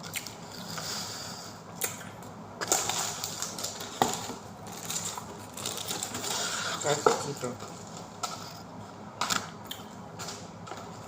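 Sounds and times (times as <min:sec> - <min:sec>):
pizza being chewed: 0:00.0 - 0:11.0.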